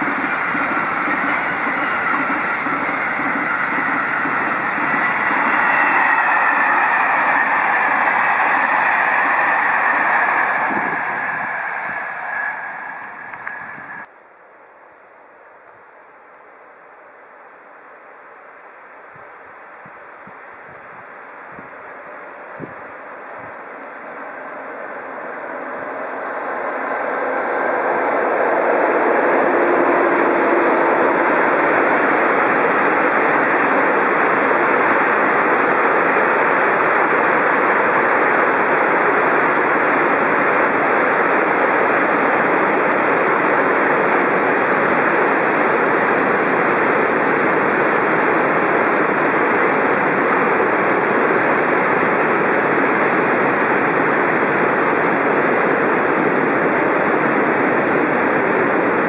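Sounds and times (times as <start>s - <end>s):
train wheels rumbling on rails: 0.0s - 14.1s, 20.2s - 59.0s
locomotive hum: 0.0s - 59.0s.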